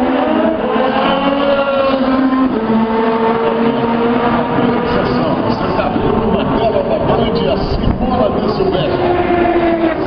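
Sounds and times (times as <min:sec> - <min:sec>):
race car engines at high revs: 0:00.0 - 0:10.0.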